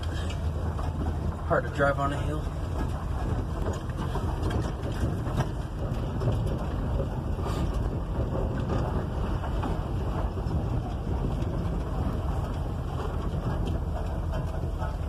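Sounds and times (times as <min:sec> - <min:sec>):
engine running heard from cab: 0:00.0 - 0:15.0.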